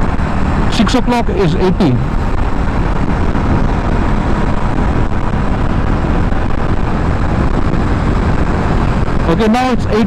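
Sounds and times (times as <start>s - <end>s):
wind rushing on microphone: 0.0s - 10.0s.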